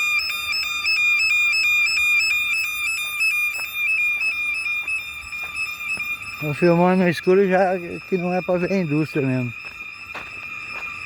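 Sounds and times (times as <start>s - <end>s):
fluttering fire alarm tone: 0.0s - 11.0s.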